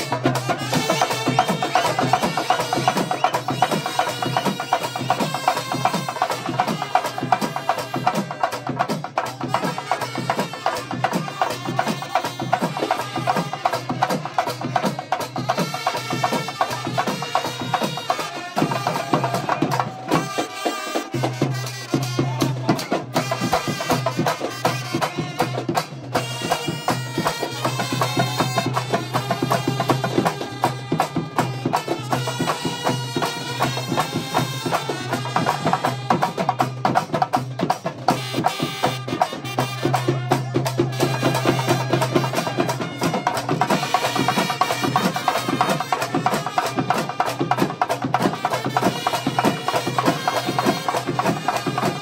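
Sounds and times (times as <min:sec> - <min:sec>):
drums and cymbals beat: 0:00.0 - 0:52.0
trumpets and trombones melody: 0:00.0 - 0:52.0.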